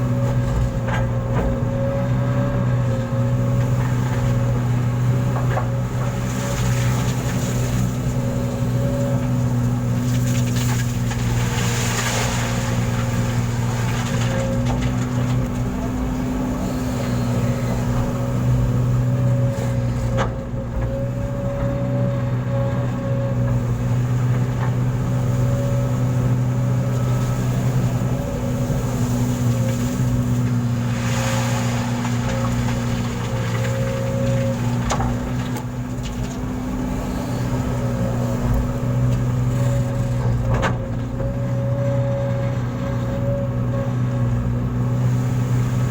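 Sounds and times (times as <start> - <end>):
truck engine droning: 0.0 - 45.9.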